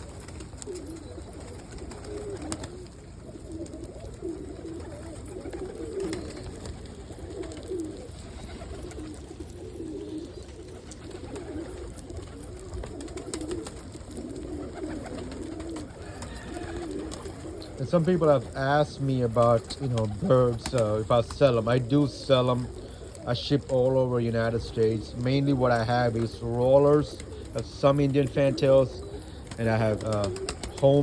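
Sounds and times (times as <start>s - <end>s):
pigeons cooing: 0.0s - 31.0s.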